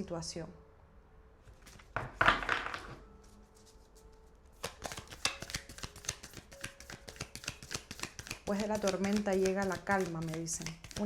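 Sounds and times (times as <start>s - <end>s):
cards shuffling clicks and flicks: 1.5s - 11.0s.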